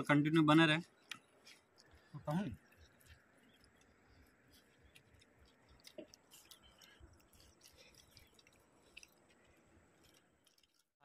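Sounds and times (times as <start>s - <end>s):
people eating crunching: 0.9s - 11.0s.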